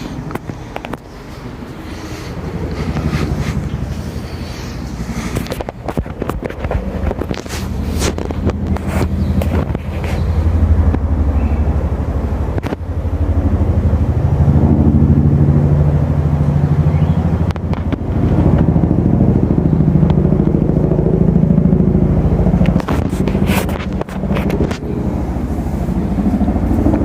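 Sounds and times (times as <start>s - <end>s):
helicopter rotors beating: 0.0s - 27.0s.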